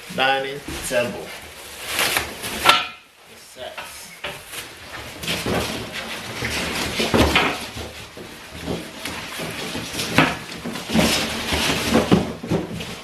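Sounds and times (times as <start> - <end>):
packaging rustling and scraping: 0.7 - 2.8, 3.6 - 13.0.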